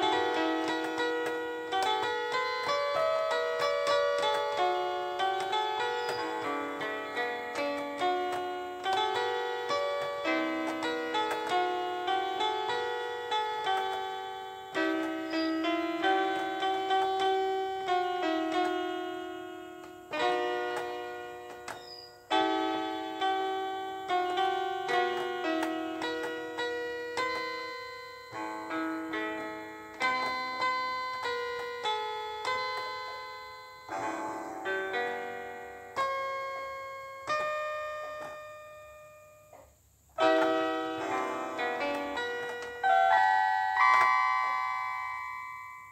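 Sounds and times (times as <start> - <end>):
electronic keyboard piano melody: 0.0 - 45.9.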